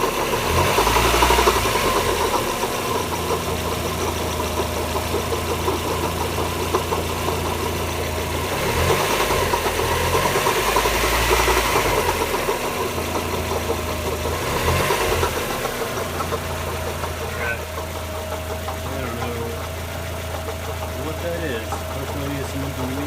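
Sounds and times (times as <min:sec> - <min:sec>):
car engine idling and revving: 0:00.0 - 0:23.0
engine knocking: 0:00.0 - 0:23.0
engine lifter tick: 0:00.0 - 0:23.0.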